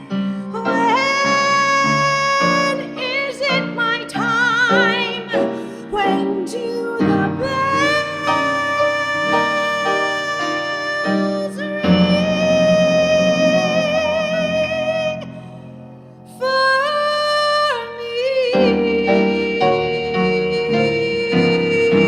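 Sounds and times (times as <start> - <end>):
piano chords: 0.0 - 22.0
woman singing with vibrato: 0.0 - 22.0.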